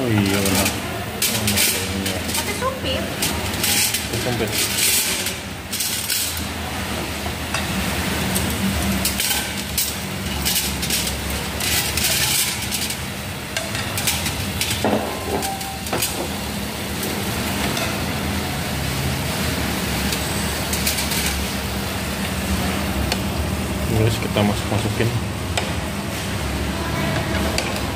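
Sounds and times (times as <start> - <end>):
food sizzling on grill pan: 0.0 - 27.9.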